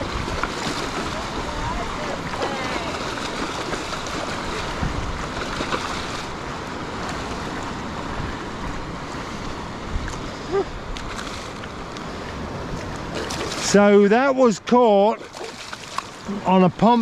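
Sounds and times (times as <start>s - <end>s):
wind on microphone: 0.0s - 13.7s
shallow surf washing: 0.0s - 17.0s.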